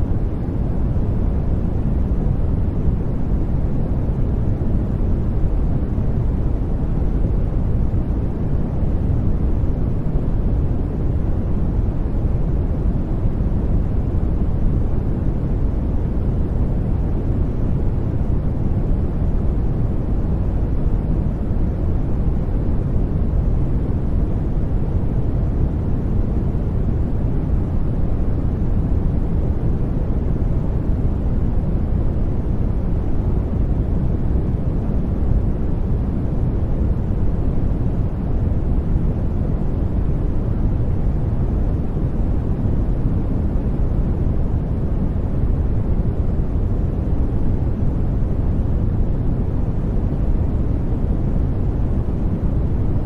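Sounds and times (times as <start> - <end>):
deep rumbling white noise: 0.0 - 53.0.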